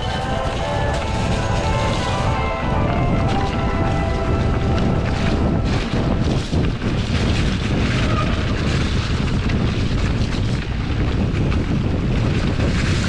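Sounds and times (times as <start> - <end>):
mountain bike rumbling and rattling: 0.0 - 13.0
wind buffeting microphone: 0.0 - 13.0.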